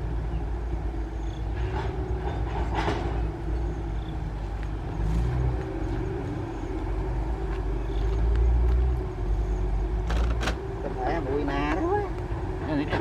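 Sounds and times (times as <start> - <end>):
engine running with low rumble: 0.0 - 13.0.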